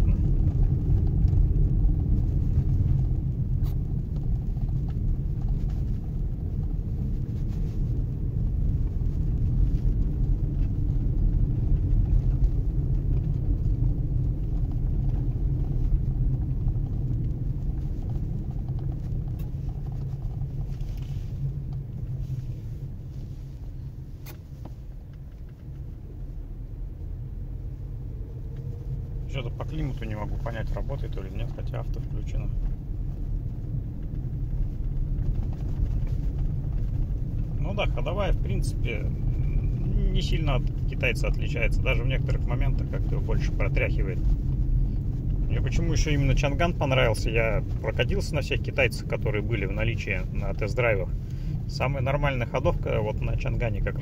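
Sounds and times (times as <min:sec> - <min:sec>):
road and tyre rumble in car: 0:00.0 - 0:54.0.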